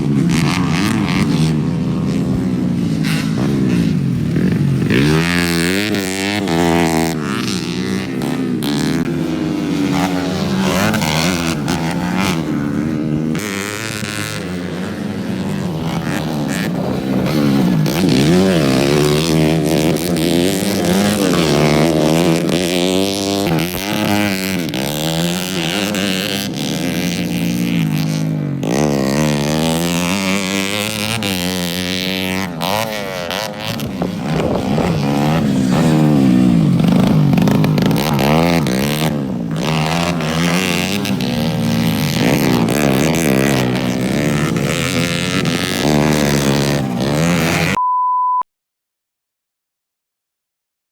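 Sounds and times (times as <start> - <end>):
motocross bike engines racing: 0.0 - 47.8.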